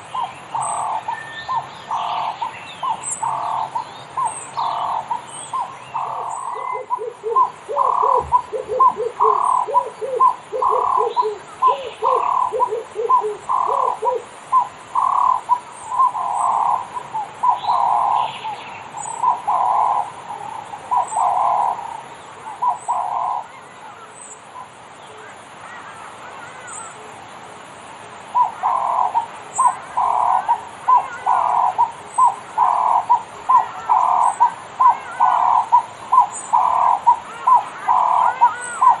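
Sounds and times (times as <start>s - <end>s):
birds calling: 0.0s - 39.0s.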